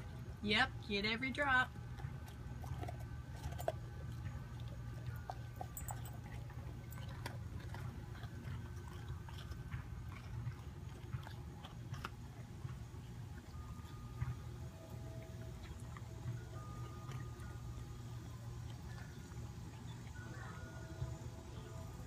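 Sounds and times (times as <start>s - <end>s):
steady low hum: 0.0s - 22.0s
dog licking and chewing: 1.7s - 22.0s.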